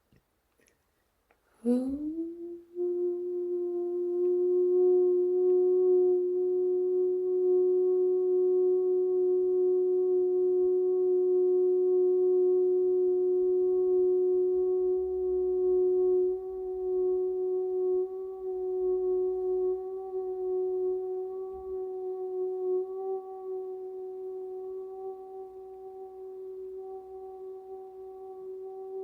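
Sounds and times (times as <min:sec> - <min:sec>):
faint lower tone: 0:01.6 - 0:29.0
pure sustained tone: 0:01.6 - 0:29.0.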